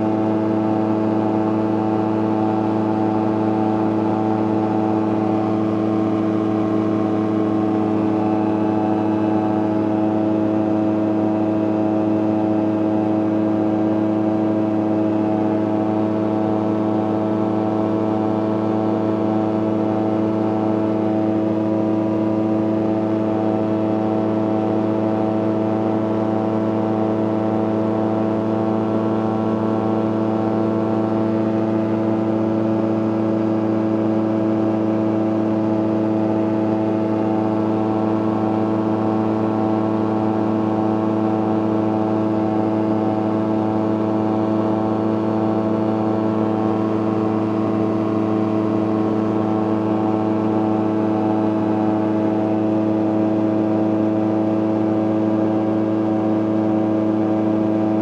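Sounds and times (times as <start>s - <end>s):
light aircraft engine and propeller: 0.0s - 58.0s.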